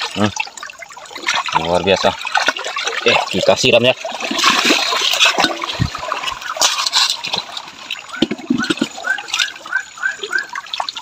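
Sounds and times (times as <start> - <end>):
water splashing in a pan: 0.0 - 11.0.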